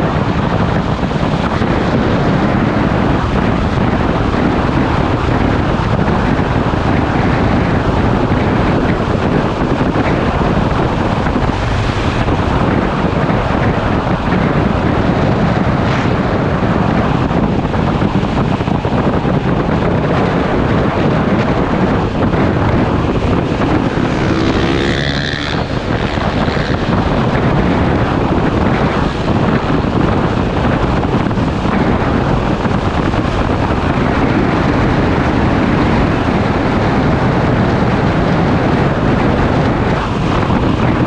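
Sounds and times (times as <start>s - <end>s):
motorcycle engine cruising: 0.0s - 41.0s
wind rush over microphone: 0.0s - 41.0s.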